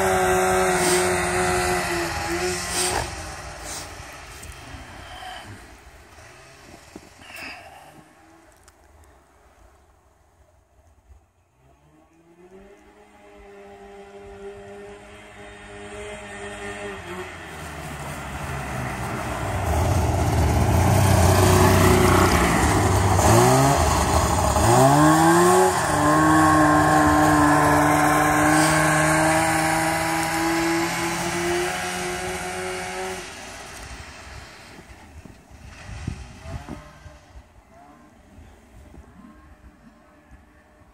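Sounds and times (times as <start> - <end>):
snowmobile engine revving: 0.0 - 8.8, 11.5 - 40.9.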